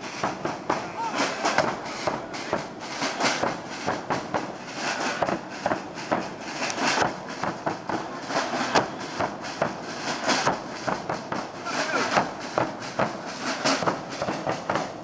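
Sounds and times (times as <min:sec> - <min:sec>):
bass drums beaten with sticks: 0:00.0 - 0:15.0.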